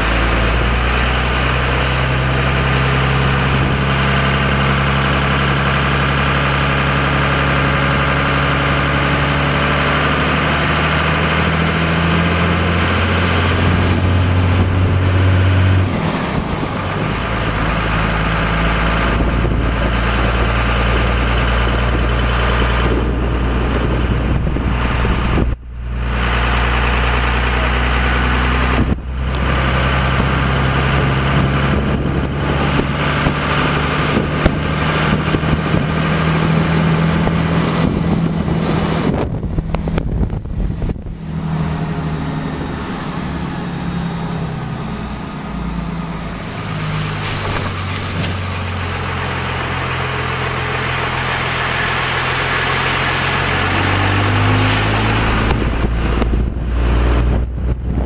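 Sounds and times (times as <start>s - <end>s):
car engine hum from inside: 0.0s - 58.0s
road noise: 0.0s - 58.0s.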